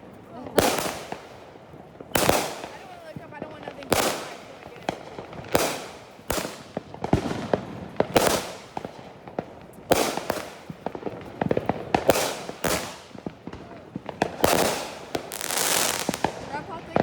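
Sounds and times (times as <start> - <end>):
fireworks bangs with hiss: 0.0 - 17.0
small firework pops: 0.0 - 17.0.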